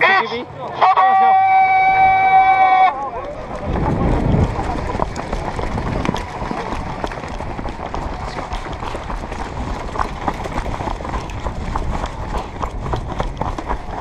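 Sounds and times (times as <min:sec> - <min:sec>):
wind on microphone: 0:01.7 - 0:14.0
running footsteps on gravel: 0:01.8 - 0:14.0.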